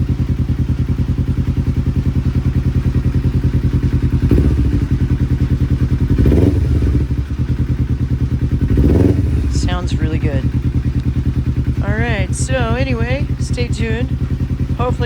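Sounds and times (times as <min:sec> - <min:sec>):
motorcycle engine idling: 0:00.0 - 0:15.0
motorcycle engine revving: 0:00.0 - 0:15.0.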